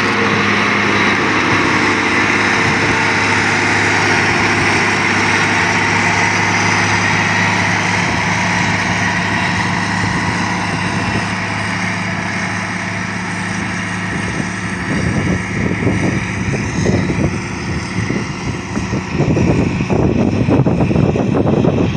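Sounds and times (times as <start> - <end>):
gusty rumbles: 0.0 - 21.9
heavy machine engine running: 0.0 - 21.9.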